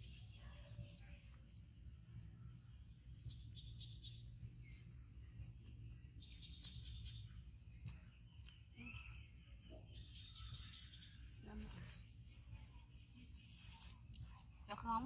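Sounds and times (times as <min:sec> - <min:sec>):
small chirps and ticks: 0:00.0 - 0:15.0.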